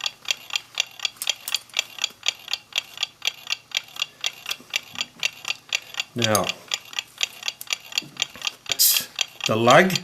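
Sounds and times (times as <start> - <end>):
mechanical clock ticking: 0.0 - 10.0.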